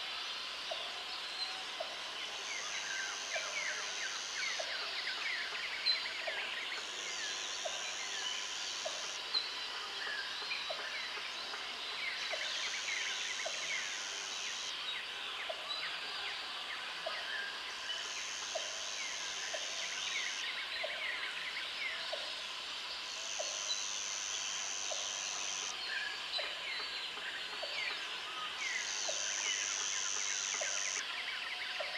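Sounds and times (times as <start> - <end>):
insects buzzing: 0.2 - 15.0, 17.2 - 31.5.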